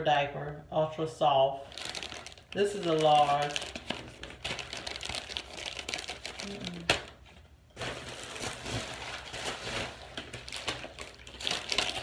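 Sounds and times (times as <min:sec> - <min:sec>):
plastic packaging crinkling: 0:01.6 - 0:12.0.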